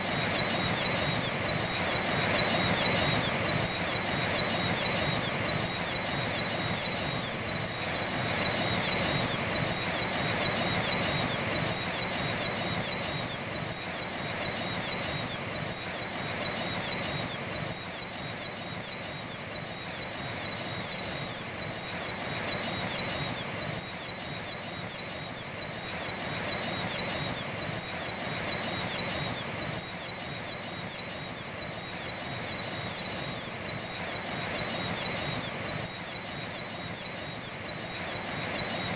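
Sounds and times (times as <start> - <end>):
bird chirping: 0.1 - 38.9.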